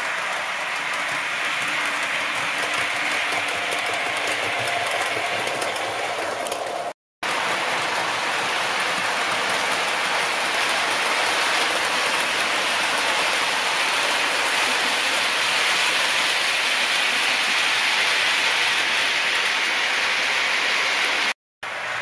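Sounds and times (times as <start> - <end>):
model trains running on track: 0.0 - 22.0.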